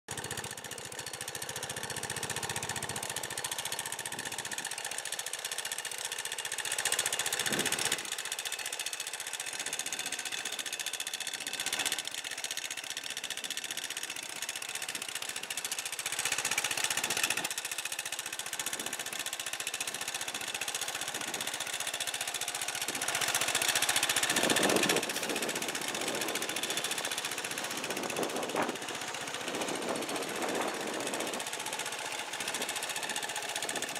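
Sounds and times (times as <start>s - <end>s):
tractor engine idling: 0.1s - 33.9s.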